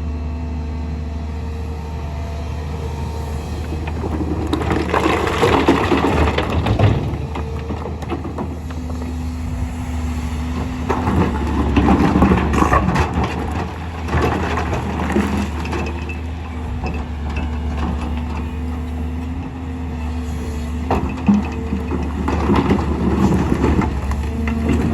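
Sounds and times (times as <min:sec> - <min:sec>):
excavator diesel engine: 0:00.0 - 0:24.9.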